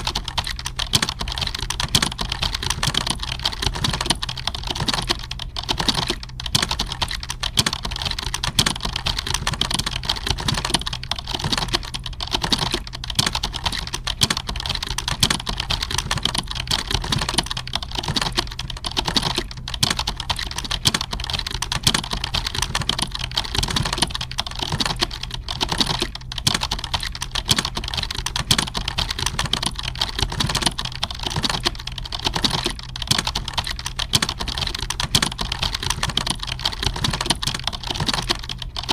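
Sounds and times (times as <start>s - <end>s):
computer keyboard typing: 0.0s - 38.9s
steady low hum: 0.0s - 38.9s.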